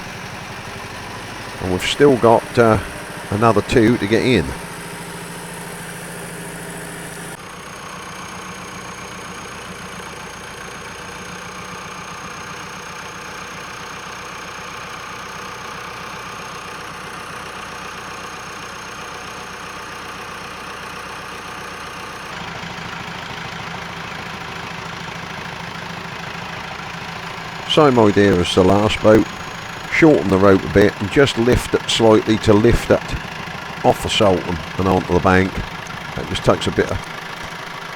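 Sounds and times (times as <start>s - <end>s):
tractor engine idling: 0.0s - 13.4s, 14.2s - 37.9s.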